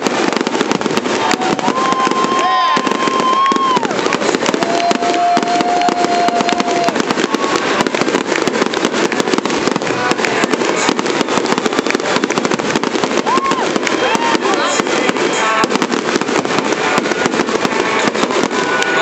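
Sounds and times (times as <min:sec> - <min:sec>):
firework whistling tones: 0:00.0 - 0:19.0
fireworks bangs and crackles: 0:00.0 - 0:19.0.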